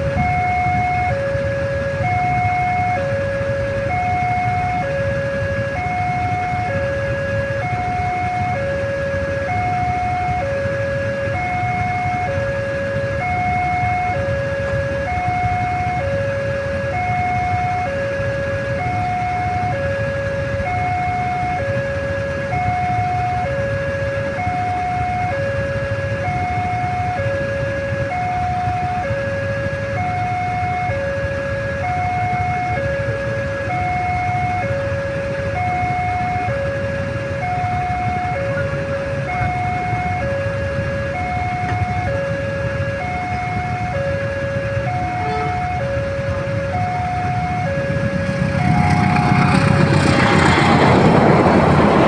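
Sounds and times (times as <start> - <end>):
idling engines rumble: 0.0 - 52.0
level crossing two-tone alarm: 0.0 - 52.0.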